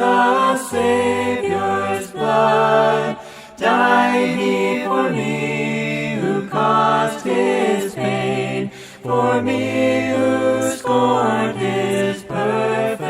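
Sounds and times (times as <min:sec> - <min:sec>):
a cappella hymn singing: 0:00.0 - 0:13.0.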